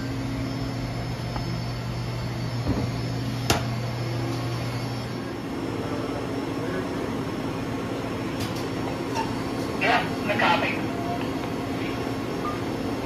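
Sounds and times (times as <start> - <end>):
equipment humming: 0.0 - 13.0
ventilation fan rush: 0.0 - 13.0.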